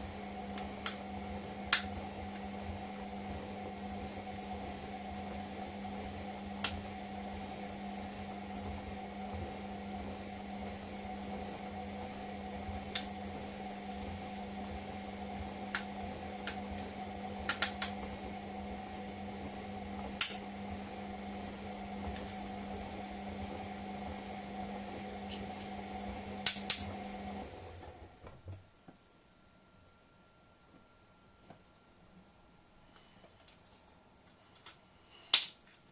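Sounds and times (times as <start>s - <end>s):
washing machine humming: 0.0s - 28.9s.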